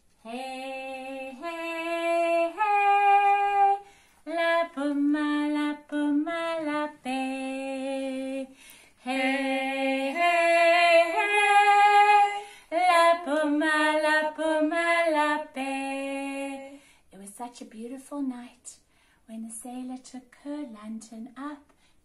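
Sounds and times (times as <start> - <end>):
woman singing unaccompanied: 0.2 - 18.6, 19.3 - 21.7.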